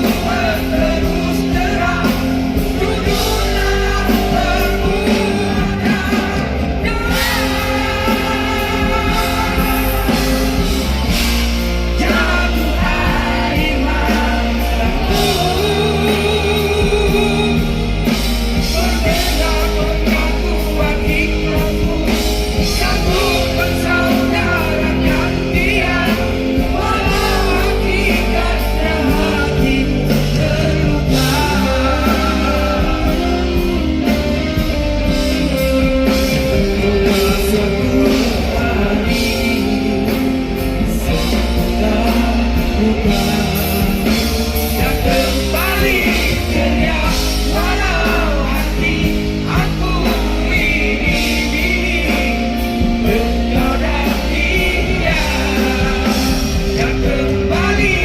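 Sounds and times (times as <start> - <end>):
bass guitar: 0.0 - 58.0
drums: 0.0 - 58.0
electric guitar: 0.0 - 58.0
person singing: 0.0 - 58.0.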